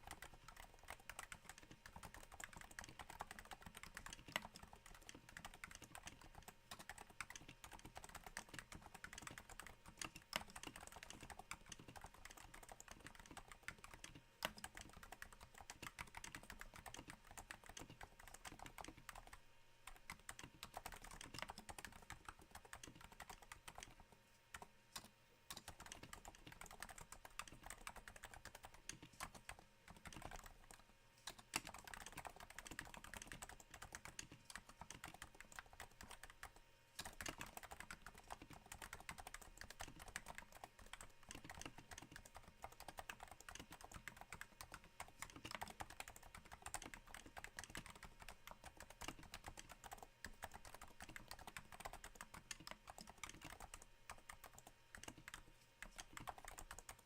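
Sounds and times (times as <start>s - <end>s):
soft keyboard typing: 0.0s - 57.0s.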